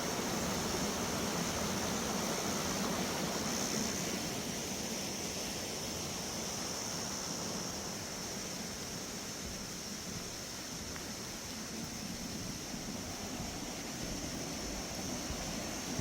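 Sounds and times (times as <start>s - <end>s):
stream rushing: 0.0s - 16.0s.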